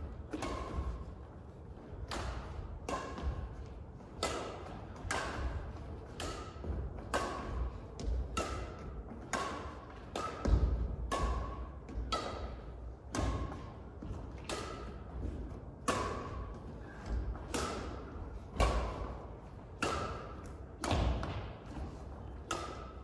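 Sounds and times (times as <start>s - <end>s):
rackets hitting shuttlecock: 0.0s - 23.0s.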